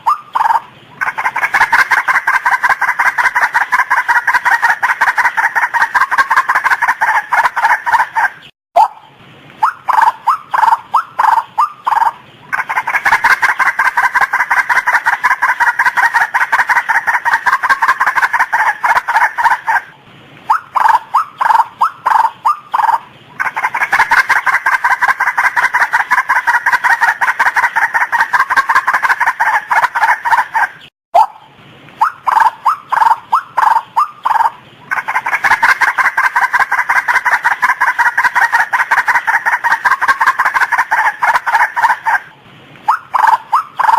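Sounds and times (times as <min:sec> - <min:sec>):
waterhen calling: 0:00.0 - 0:43.9.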